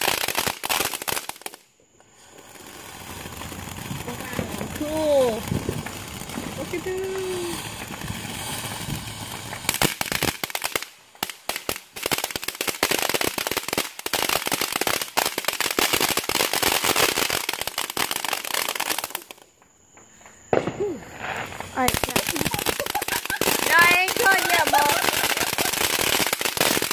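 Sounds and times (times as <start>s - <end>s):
fireworks crackling and popping: 0.0s - 26.9s.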